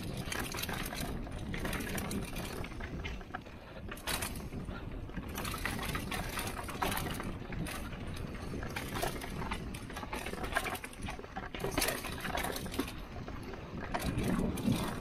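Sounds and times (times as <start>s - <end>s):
bike rattling over bumps: 0.0s - 15.0s.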